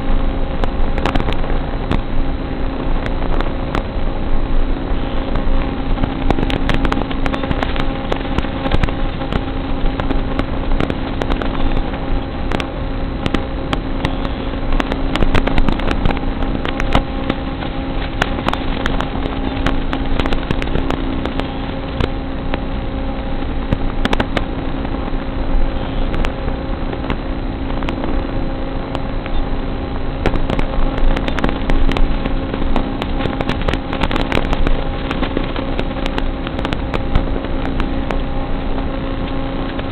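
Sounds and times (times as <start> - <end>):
electric hum with hiss: 0.0 - 39.9
sharp clicks and crackles: 0.0 - 39.9.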